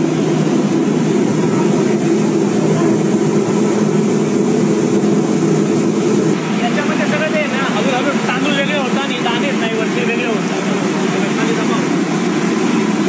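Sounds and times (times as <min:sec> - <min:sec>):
mill machinery running: 0:00.0 - 0:13.0.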